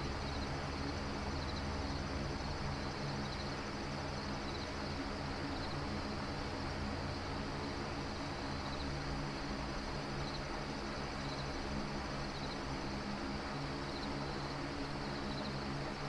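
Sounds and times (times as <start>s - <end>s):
crickets chirping: 0.0s - 16.0s
low hum and hiss: 0.0s - 16.0s.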